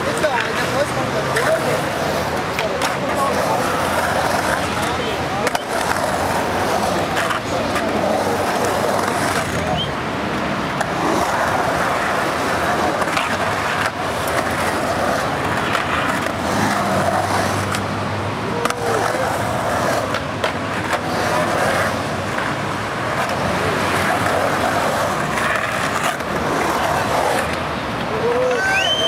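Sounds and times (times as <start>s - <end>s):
skateboard clacking on ground: 0.0s - 29.0s
skateboard wheels rolling on pavement: 0.0s - 29.0s.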